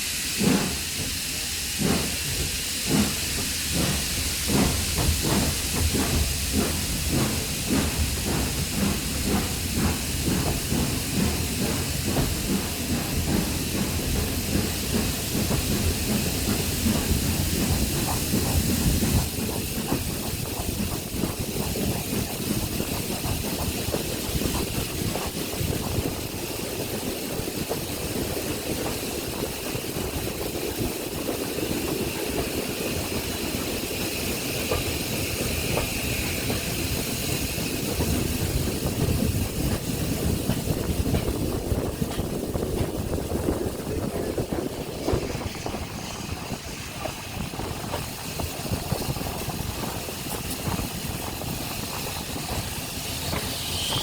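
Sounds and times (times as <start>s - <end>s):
steam train hissing: 0.0s - 54.0s.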